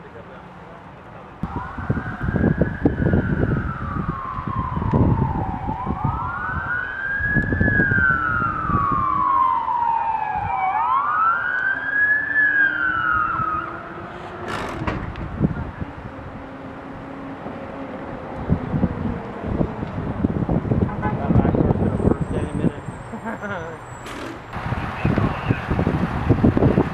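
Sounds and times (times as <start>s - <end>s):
gusty low rumble: 1.4s - 10.6s, 13.0s - 23.0s, 24.4s - 26.9s
emergency vehicle siren wailing: 1.4s - 26.9s.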